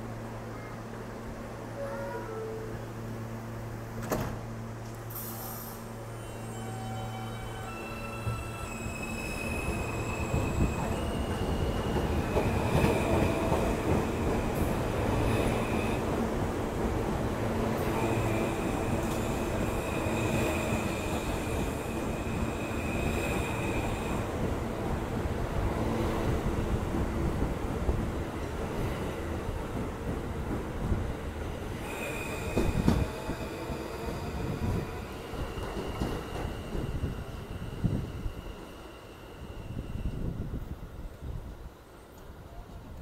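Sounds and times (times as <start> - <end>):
subway train rumbling: 0.0 - 43.0.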